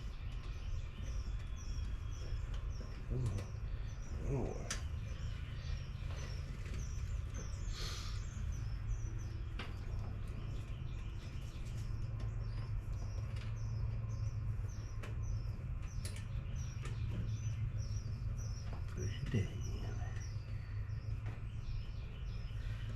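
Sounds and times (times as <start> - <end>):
small bird chirps: 0.0 - 22.9
steady low rumble: 0.0 - 22.9.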